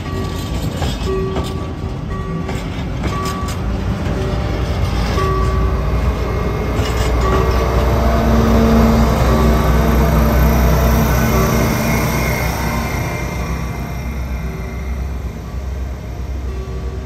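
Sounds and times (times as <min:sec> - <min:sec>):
diesel locomotive rumble: 0:00.0 - 0:17.0
train wagons rolling on rails: 0:00.0 - 0:17.0.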